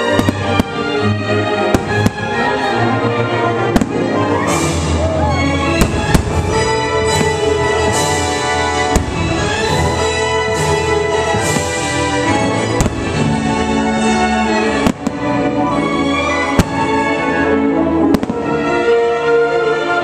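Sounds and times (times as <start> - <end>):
fireworks bursting: 0.0 - 2.7, 3.6 - 18.8
orchestral soundtrack: 0.0 - 20.0.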